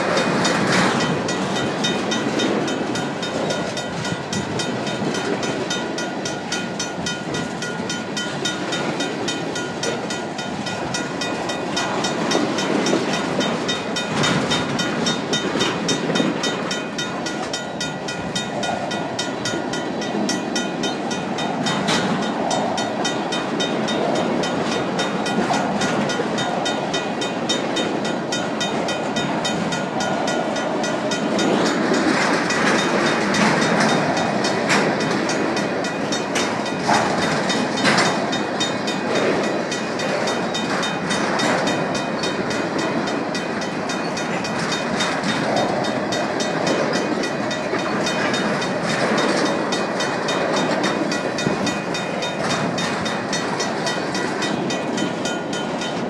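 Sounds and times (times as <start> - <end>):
crossing bell ringing: 0.0 - 56.0
train wheels clacking on rails: 0.0 - 56.0.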